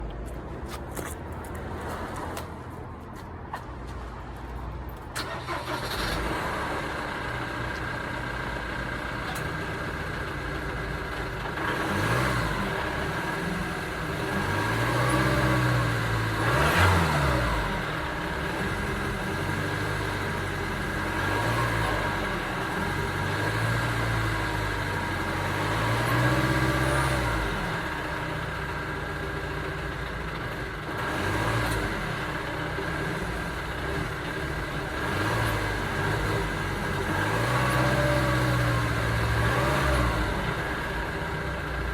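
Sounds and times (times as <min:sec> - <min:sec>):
van engine revving: 0:05.2 - 0:41.9.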